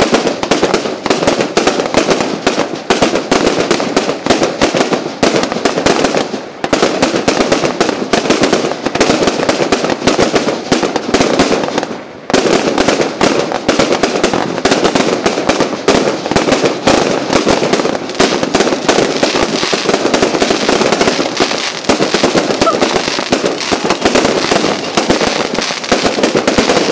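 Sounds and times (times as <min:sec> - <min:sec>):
fireworks bangs and crackles: 0:00.0 - 0:26.9.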